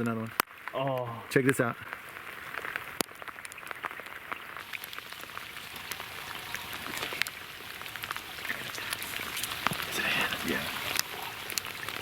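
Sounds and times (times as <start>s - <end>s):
raindrops ticking close by: 0.0s - 12.0s
steady rain falling: 0.0s - 12.0s.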